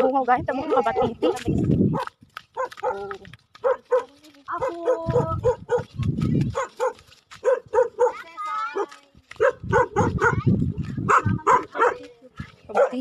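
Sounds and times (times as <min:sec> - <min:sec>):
dog barking: 0:00.9 - 0:12.0, 0:12.7 - 0:13.0.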